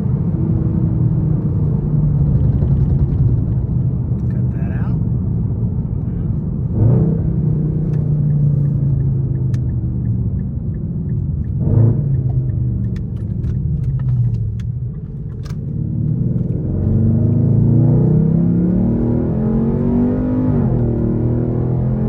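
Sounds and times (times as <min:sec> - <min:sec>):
car exhaust rumbling: 0:00.0 - 0:19.8.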